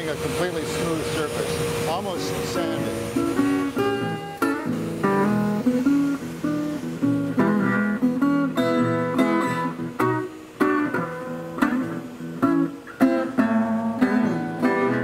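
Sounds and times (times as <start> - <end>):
fingerpicked resonator guitar: 1.7 - 15.0.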